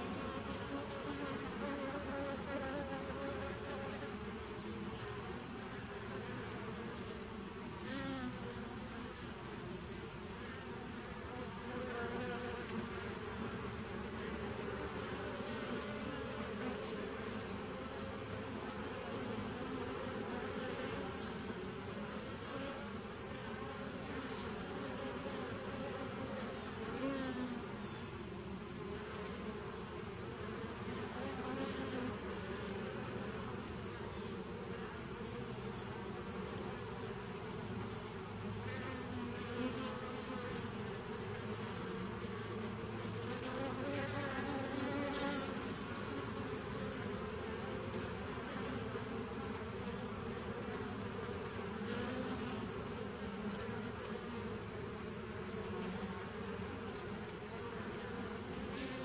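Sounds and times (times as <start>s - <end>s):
hum of many bees: 0.0s - 59.0s
single bee buzzing past: 0.0s - 59.0s.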